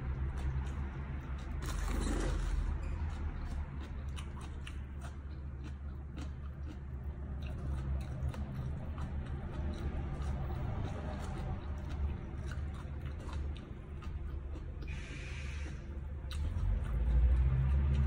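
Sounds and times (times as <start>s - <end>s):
person chewing crisp vegetables: 0.0s - 18.0s
steady low hum: 0.0s - 18.0s.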